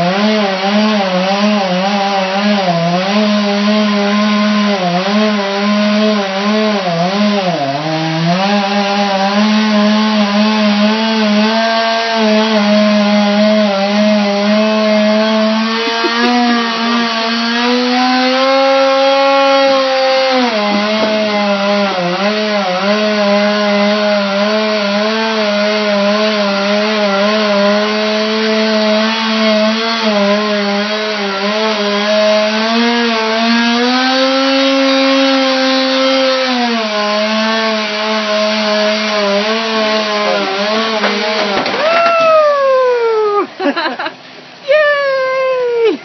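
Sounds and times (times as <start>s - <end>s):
chainsaw cutting wood: 0.0s - 44.7s.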